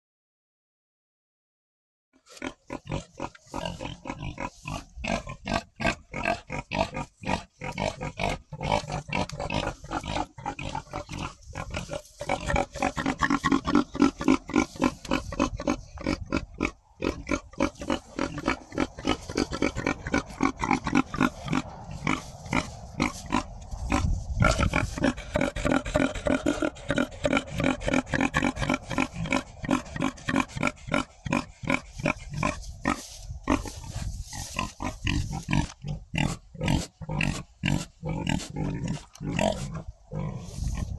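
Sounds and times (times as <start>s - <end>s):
pigs oinking and grunting: 2.3s - 40.9s.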